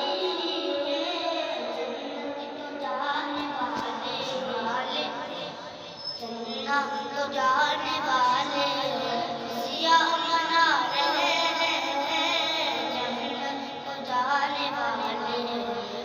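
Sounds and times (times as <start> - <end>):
high voice singing: 0.0 - 16.0.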